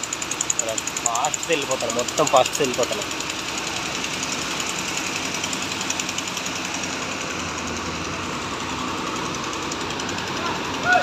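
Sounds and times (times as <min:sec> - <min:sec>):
pump engine clattering: 0:00.0 - 0:11.0.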